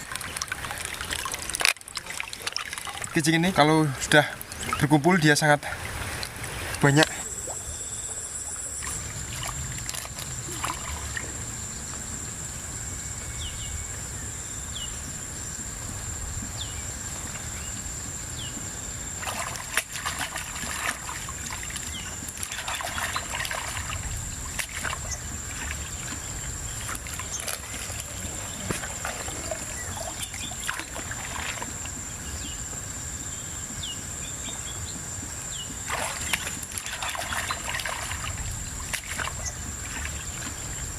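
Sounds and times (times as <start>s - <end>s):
water splashes: 0.0s - 12.8s, 15.7s - 40.9s
river water sloshing and trickling: 0.0s - 40.9s.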